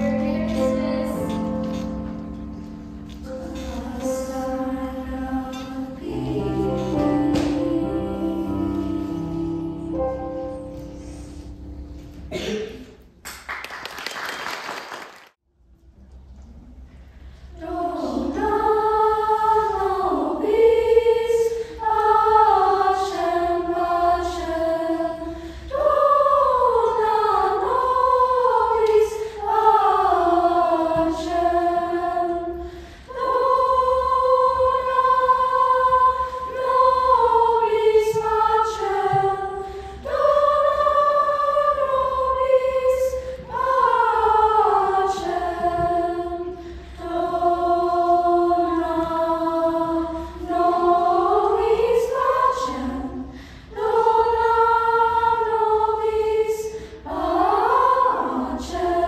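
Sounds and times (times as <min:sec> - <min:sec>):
youth choir singing: 0:00.0 - 0:12.5, 0:17.5 - 0:59.0.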